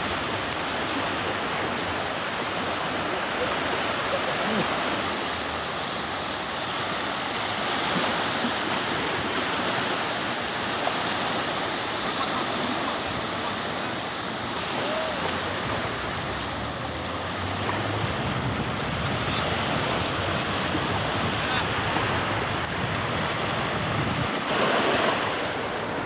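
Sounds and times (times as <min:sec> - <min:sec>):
sea water rushing: 0:00.0 - 0:26.0.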